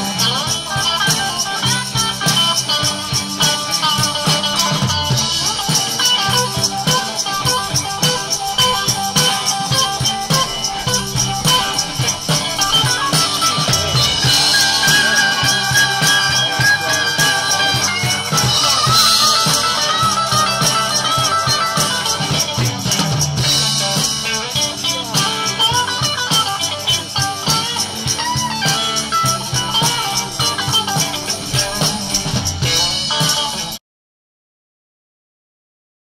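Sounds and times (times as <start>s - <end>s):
rock music with electric guitar: 0.0s - 33.8s
tambourine shaking: 0.0s - 33.8s.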